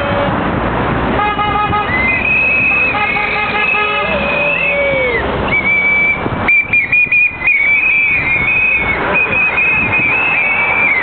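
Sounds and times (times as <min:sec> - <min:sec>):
whistles blowing: 0:01.8 - 0:11.0.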